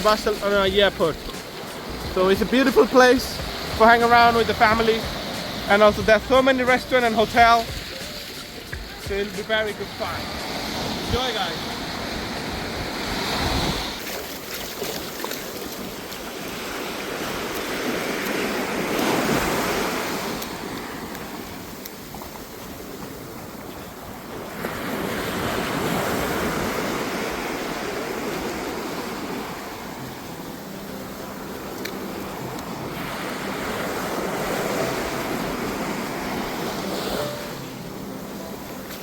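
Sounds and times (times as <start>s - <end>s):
sea waves breaking on beach: 0.0s - 39.0s
wind: 0.0s - 39.0s.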